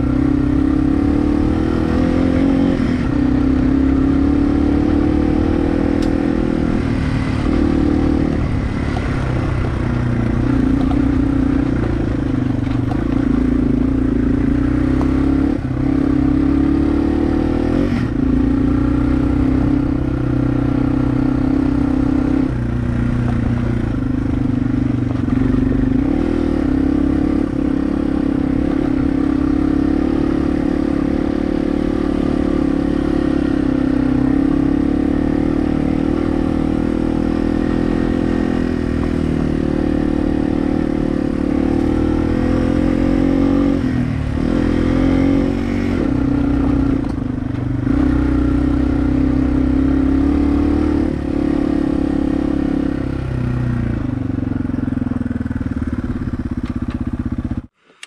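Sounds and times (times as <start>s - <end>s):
dirt bike engine running: 0.0s - 57.7s.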